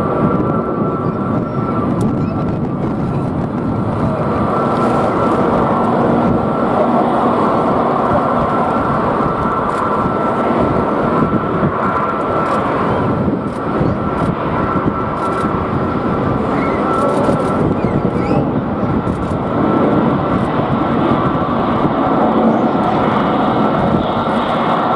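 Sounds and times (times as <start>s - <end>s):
jet engines roaring: 0.0s - 24.9s.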